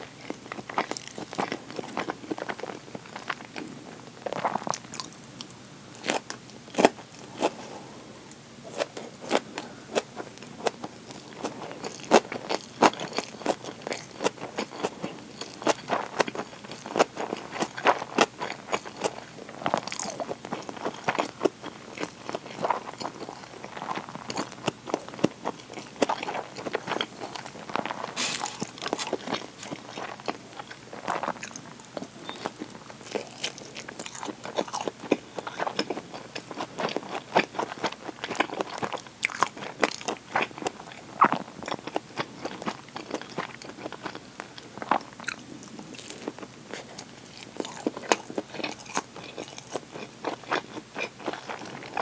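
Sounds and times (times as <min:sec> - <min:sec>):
person chewing: 0:00.2 - 0:07.8, 0:08.7 - 0:52.0.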